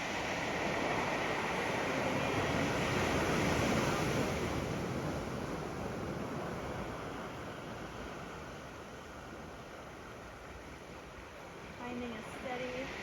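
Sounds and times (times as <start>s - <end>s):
ocean waves on sand beach: 0.0s - 13.0s.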